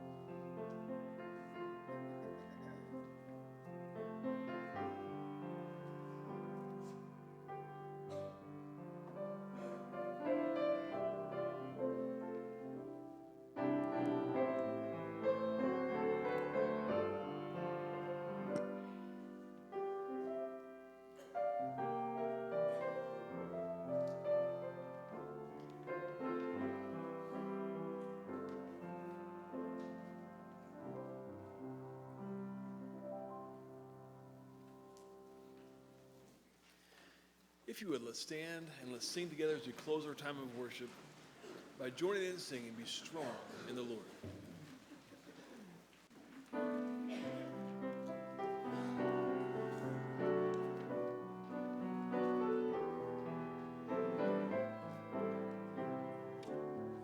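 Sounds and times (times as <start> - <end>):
slow quiet piano music: 0.0 - 36.6, 46.4 - 57.0.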